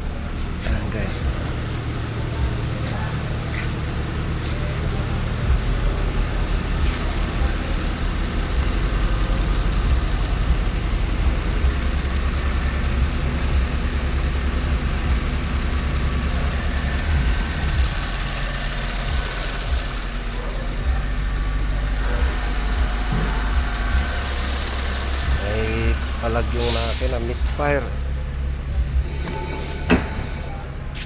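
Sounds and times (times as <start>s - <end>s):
car engine idling roughly: 0.0s - 31.0s.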